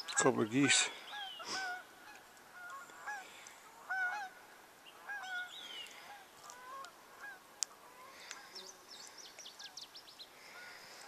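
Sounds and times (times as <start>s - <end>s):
geese honking: 0.0s - 8.6s, 10.4s - 11.0s.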